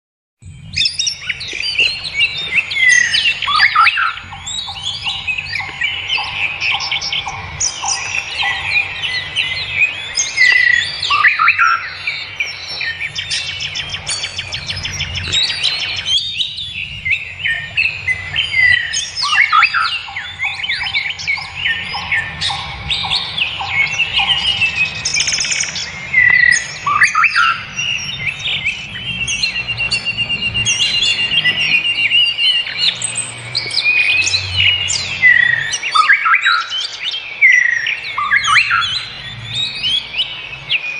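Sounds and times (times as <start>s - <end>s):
small birds chirping: 0.4s - 40.9s.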